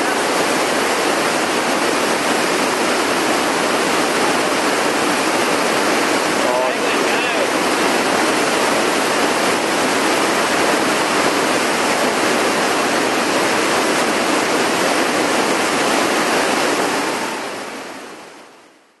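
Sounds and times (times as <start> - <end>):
whitewater rapids roaring: 0.0 - 18.7.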